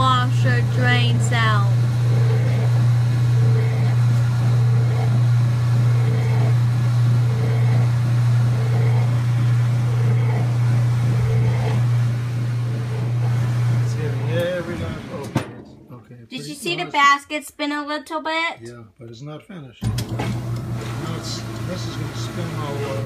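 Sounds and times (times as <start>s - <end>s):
washing machine spinning: 0.0s - 16.0s, 19.8s - 23.0s.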